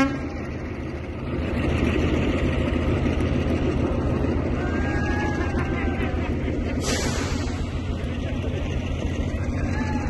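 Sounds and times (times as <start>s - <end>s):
train engine rumbling: 0.0s - 10.0s.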